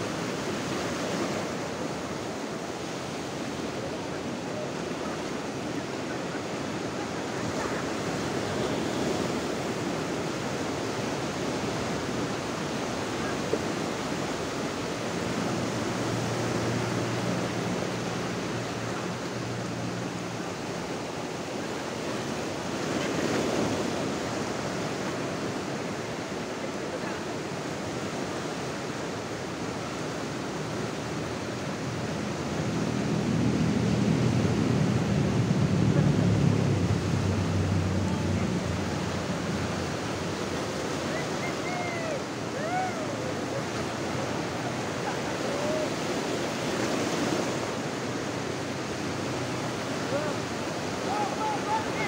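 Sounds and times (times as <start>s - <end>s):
ocean surf breaking on beach: 0.0s - 52.0s.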